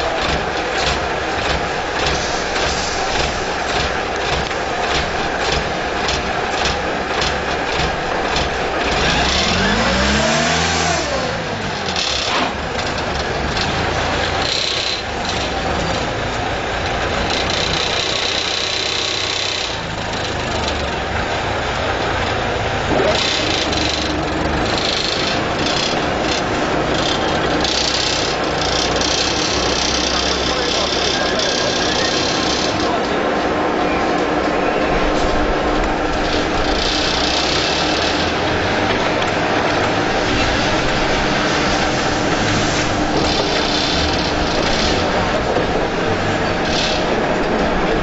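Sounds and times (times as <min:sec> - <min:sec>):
machinery clatter: 0:00.0 - 0:48.0
truck engine running: 0:00.0 - 0:48.0.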